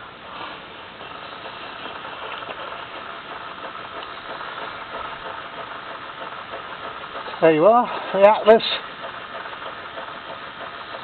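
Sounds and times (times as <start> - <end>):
steam engine clattering: 0.0 - 11.0.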